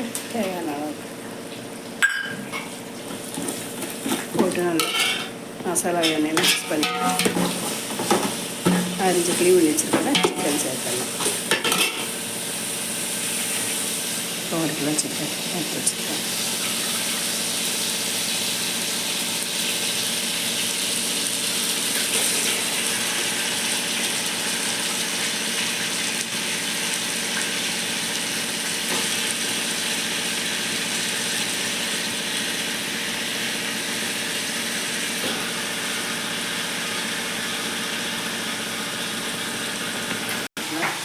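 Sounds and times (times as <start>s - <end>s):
chicken sizzling in hot oil: 0.0s - 41.0s.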